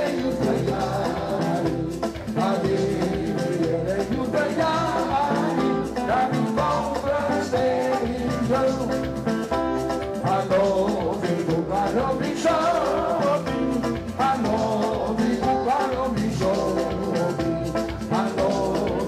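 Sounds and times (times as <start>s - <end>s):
guitar: 0.0s - 19.0s
person singing: 0.0s - 19.0s.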